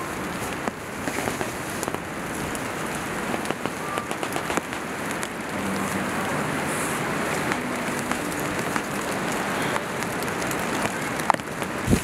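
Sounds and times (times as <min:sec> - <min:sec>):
hammock fabric and pillow crinkling: 0:00.0 - 0:12.0.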